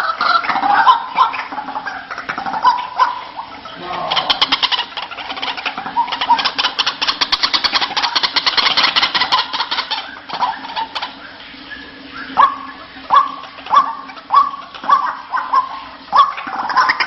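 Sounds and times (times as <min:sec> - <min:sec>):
bird calling harsh repeated notes: 0:00.0 - 0:17.0.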